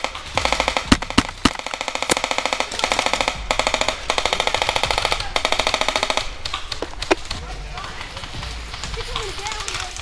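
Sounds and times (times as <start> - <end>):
airsoft guns firing bursts: 0.0 - 10.0.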